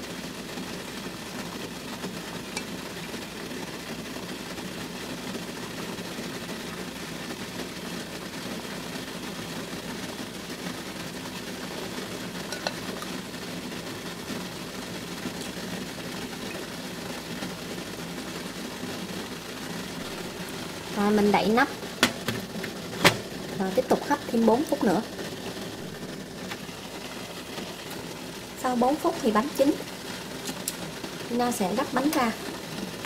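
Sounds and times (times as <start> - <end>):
water boiling hiss: 0.0 - 33.0.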